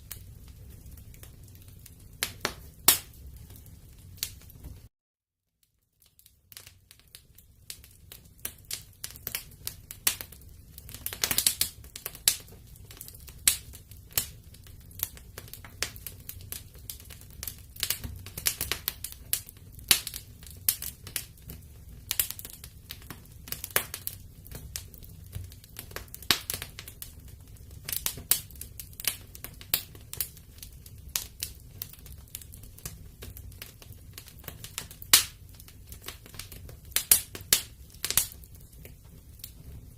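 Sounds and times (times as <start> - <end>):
low rumble of flames: 0.0 - 4.9, 6.0 - 39.9
wood fire crackling: 0.0 - 4.9, 5.6 - 39.9.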